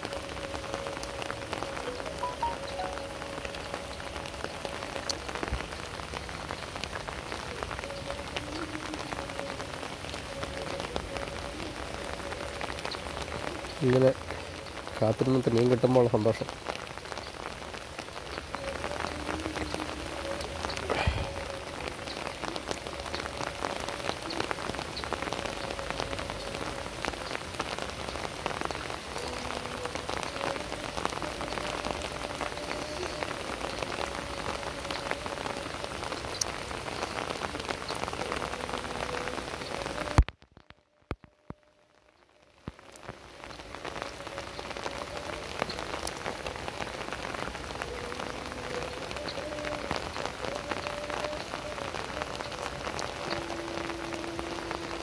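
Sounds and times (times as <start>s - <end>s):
heavy rain on river: 0.0s - 55.0s.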